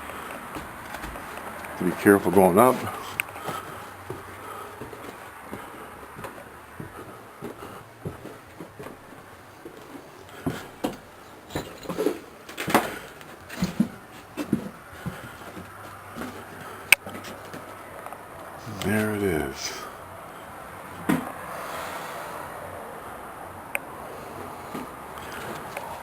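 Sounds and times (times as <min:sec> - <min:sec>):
knocks and creaks of climbing: 0:00.0 - 0:19.1, 0:24.2 - 0:26.0.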